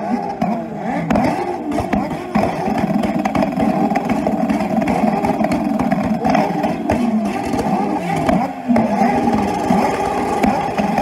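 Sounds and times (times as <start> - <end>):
exhaust crackles and pops: 0.0 - 11.0
motorcycle engines revving hard: 0.0 - 11.0.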